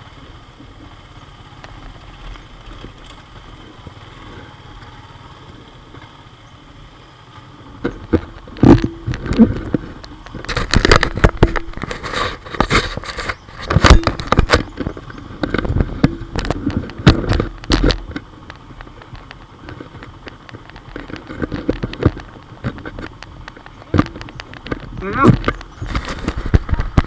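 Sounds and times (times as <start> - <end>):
knocks and clatters on rocky track: 0.2 - 6.4, 7.2 - 27.0.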